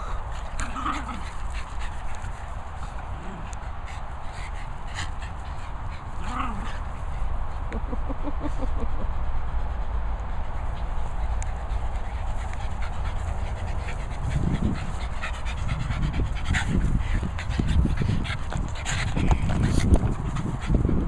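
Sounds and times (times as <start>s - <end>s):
dogs panting: 0.0s - 21.0s
steady low rumble: 0.0s - 21.0s.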